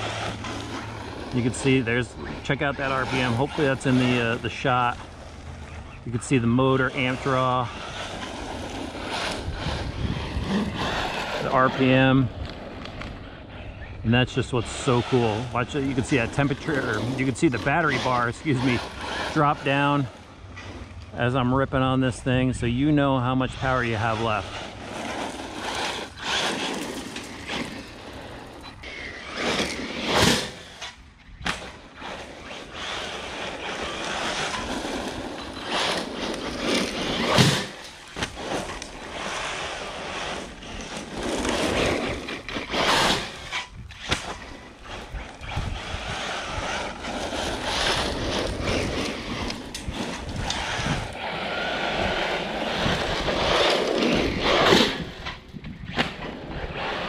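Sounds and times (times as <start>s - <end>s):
electric motor whining: 0.0s - 21.1s, 23.3s - 57.0s
tyres skidding on gravel: 0.0s - 57.0s.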